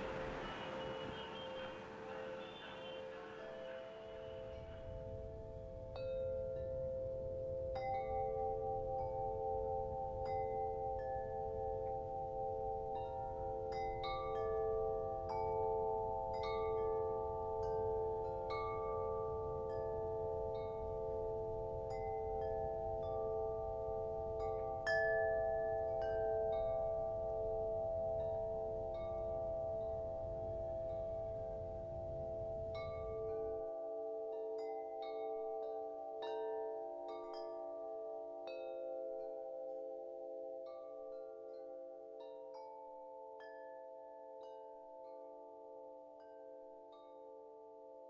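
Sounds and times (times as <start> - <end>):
metallic chimes ringing: 0.0 - 48.0.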